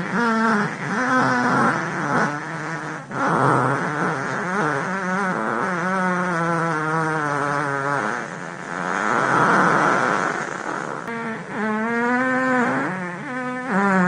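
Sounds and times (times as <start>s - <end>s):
fart sounds: 0.0s - 14.0s.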